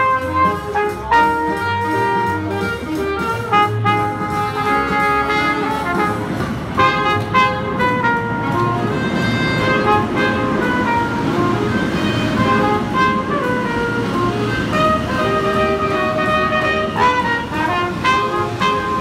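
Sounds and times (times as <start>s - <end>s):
brass horn: 0.0s - 19.0s
saxophone: 0.0s - 19.0s.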